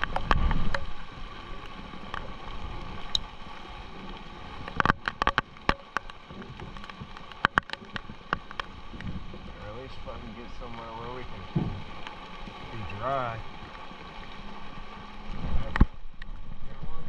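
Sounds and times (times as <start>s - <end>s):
low rumble of wind: 0.0s - 17.0s
rain hiss: 0.0s - 17.0s
raindrops tapping microphone: 0.0s - 17.0s.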